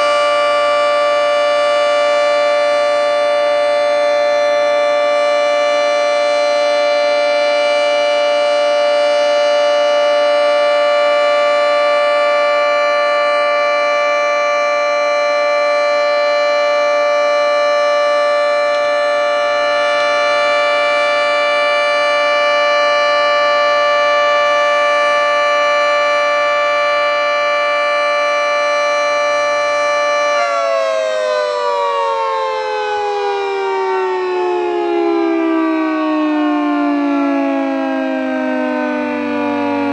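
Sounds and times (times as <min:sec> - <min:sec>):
three-tone warning siren chord: 0:00.0 - 0:39.9.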